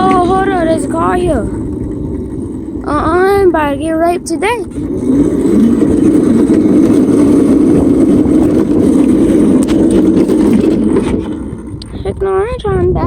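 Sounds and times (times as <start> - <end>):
small vehicle engine drone: 0.0 - 13.0.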